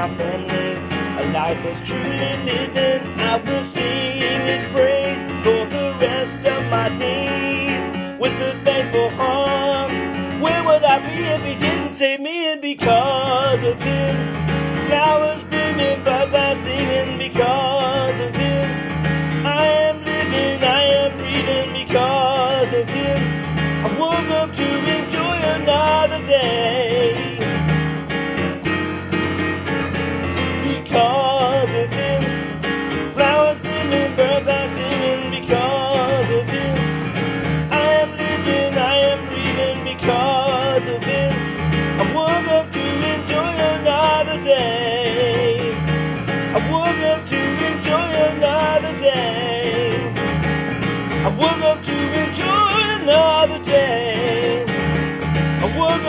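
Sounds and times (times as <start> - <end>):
country gospel instrumental music: 0.0 - 56.0.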